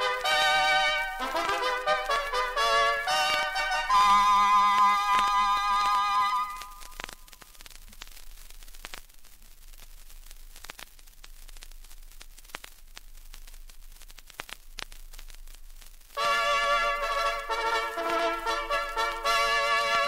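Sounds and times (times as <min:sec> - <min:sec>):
vinyl clicks and pops: 0:00.0 - 0:20.0
vinyl hiss: 0:00.0 - 0:20.0.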